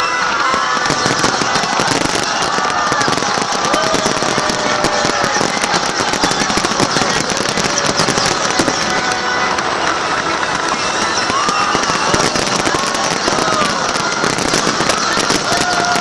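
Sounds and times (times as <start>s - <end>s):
firework whistles: 0.0s - 16.0s
fireworks crackling: 0.0s - 16.0s.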